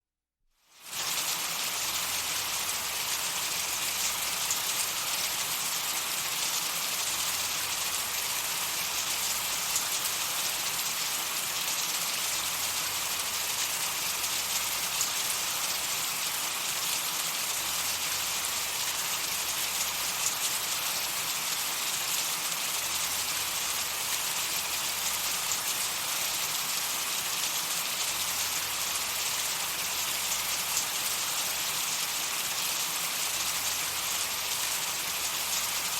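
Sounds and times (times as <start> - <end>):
steady hiss with fine crackle: 0.6 - 35.9.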